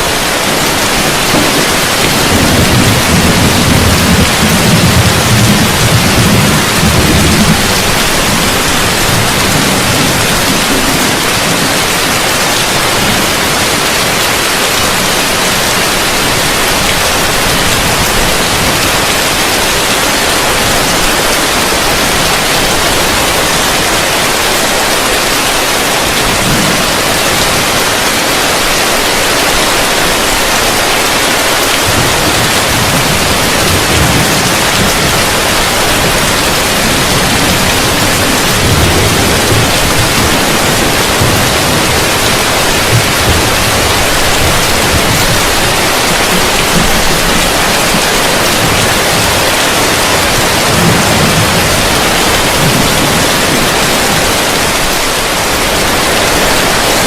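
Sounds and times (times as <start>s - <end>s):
heavy rain on a roof: 0.0s - 57.0s.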